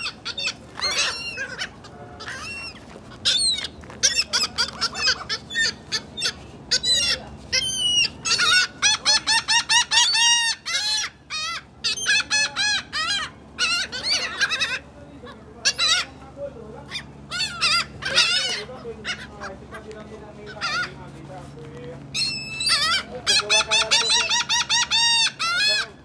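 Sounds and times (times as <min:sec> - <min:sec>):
gulls calling: 0:00.0 - 0:26.0.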